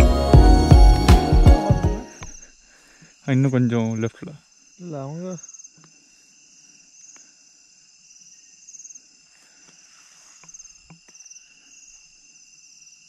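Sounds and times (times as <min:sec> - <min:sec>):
crickets and insects chirping: 0:01.7 - 0:13.0.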